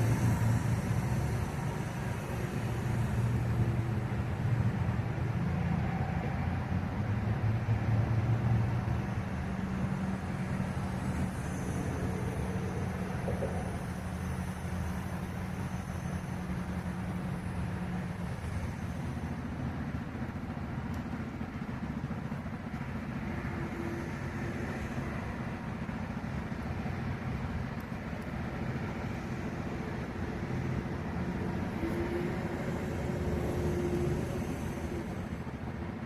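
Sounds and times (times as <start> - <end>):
heavy vehicle engine droning: 0.0 - 36.0.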